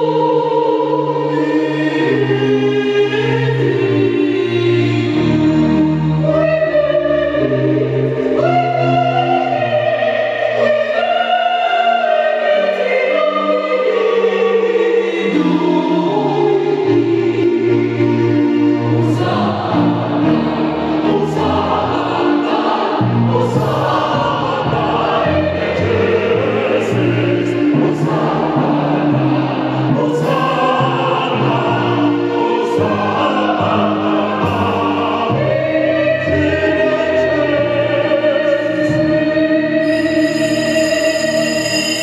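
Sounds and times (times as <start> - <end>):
mixed choir singing: 0.0 - 42.0.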